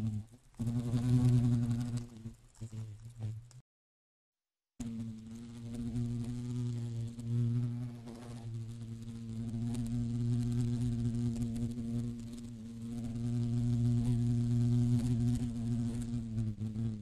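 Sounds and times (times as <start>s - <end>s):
honeybee buzzing: 0.0s - 3.6s, 4.8s - 17.0s.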